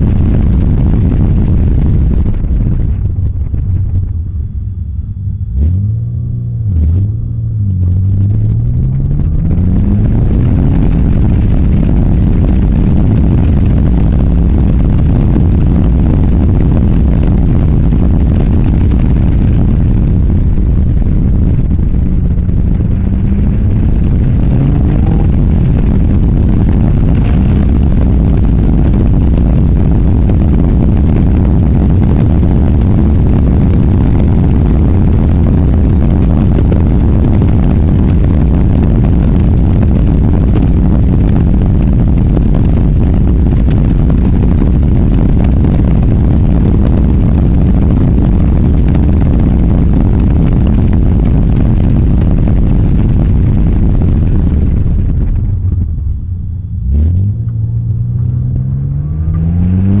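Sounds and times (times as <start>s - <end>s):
wind buffeting microphone: 0.0s - 4.6s, 7.9s - 56.2s
car engine accelerating: 0.0s - 60.0s.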